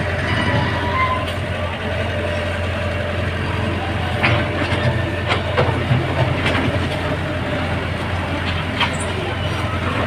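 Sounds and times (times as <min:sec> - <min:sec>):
heavy machinery engine drone: 0:00.0 - 0:10.0.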